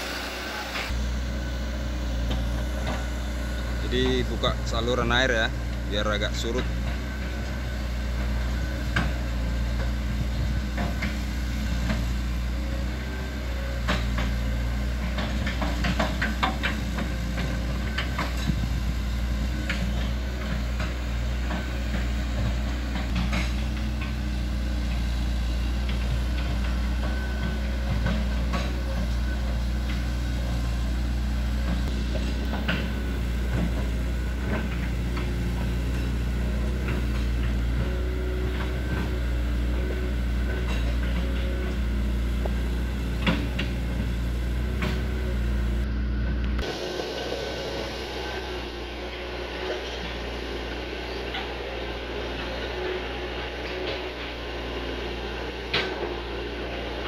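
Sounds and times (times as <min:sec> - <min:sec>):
steel tracks clanking: 0:00.0 - 0:01.1, 0:01.8 - 0:45.8, 0:46.6 - 0:57.0
excavator diesel engine running: 0:00.0 - 0:57.0.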